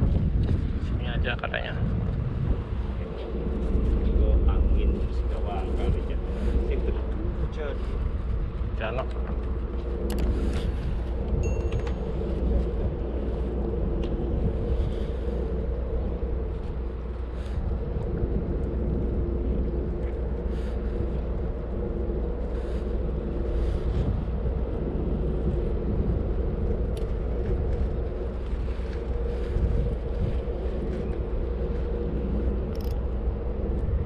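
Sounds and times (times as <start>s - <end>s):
boat engine rumbling: 0.0s - 34.0s.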